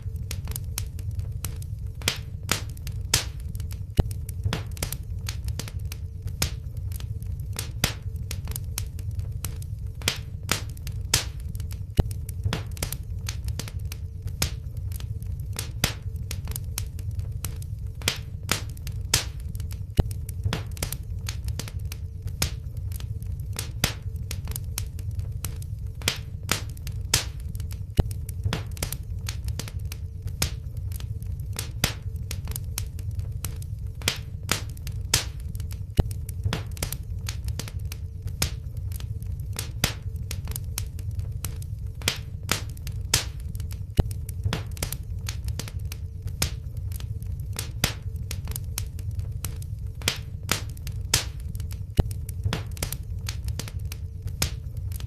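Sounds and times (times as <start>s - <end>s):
faint steady hum: 0.0s - 55.0s
fire pops and snaps: 0.0s - 55.0s
low rumble of flames: 0.0s - 55.0s.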